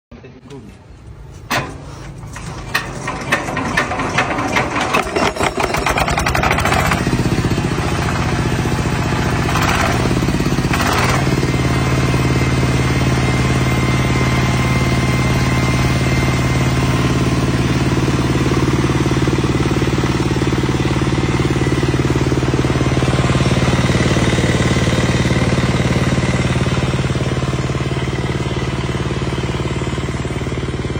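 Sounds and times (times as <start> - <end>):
engine machine starting and running: 0.8 - 30.9.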